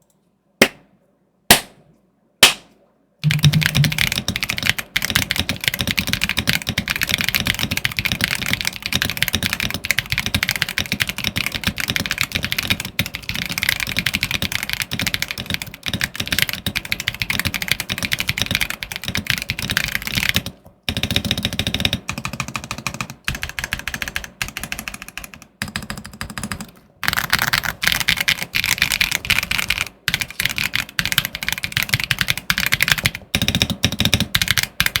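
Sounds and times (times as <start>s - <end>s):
mechanical keyboard typing: 3.2s - 35.0s.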